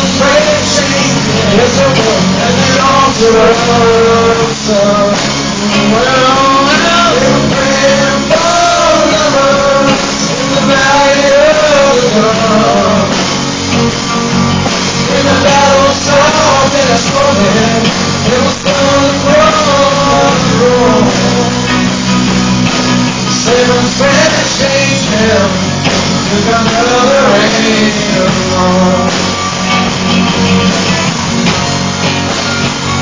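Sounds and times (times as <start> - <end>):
acoustic guitar: 0.0 - 33.0
bass guitar: 0.0 - 33.0
drums: 0.0 - 33.0.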